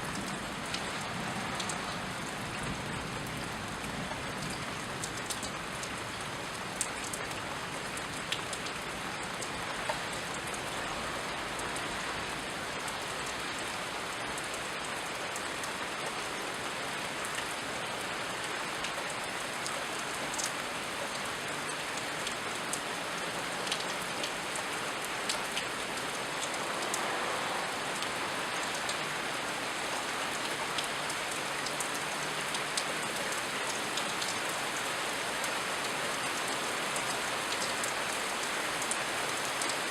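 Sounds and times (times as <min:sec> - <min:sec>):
raindrops ticking on surfaces: 0:00.0 - 0:39.9
steady rain falling: 0:00.0 - 0:39.9.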